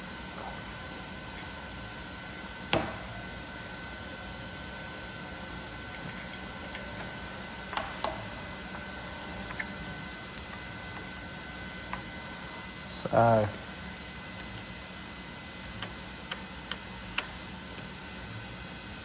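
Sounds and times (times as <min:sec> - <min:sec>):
steady workshop hum: 0:00.0 - 0:19.0.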